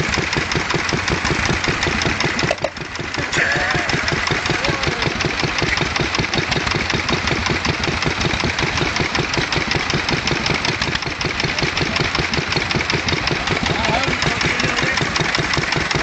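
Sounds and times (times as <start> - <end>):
stationary engine running: 0.0 - 16.0.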